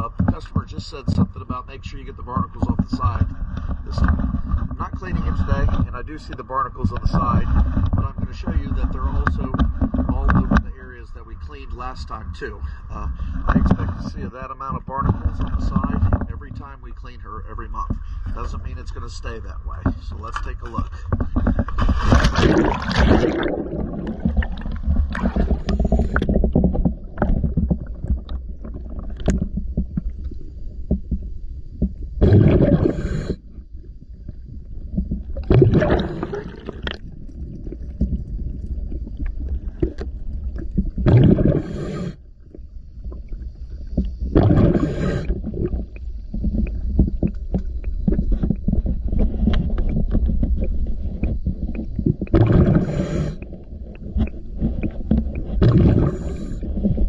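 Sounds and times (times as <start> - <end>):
exhaled bubbles gurgling: 0.0 - 57.0
steady low rumble: 0.0 - 57.0.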